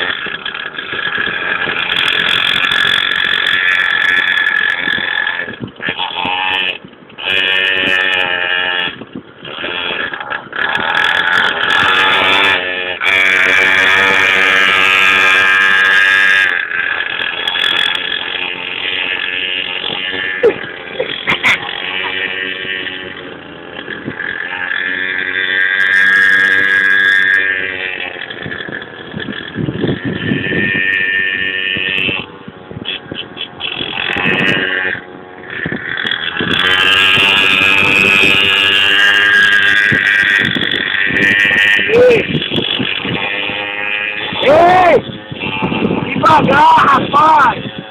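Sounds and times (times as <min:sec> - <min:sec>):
mini motorcycle engine running hard: 0:00.0 - 0:47.9.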